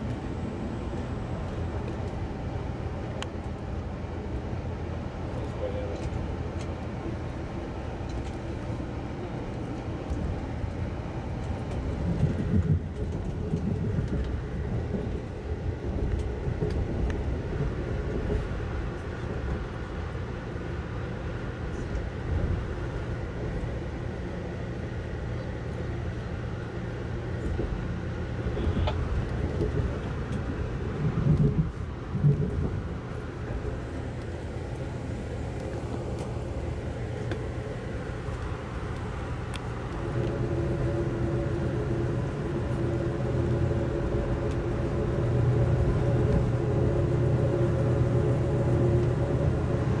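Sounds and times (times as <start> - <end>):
train interior rumble: 0.0 - 50.0.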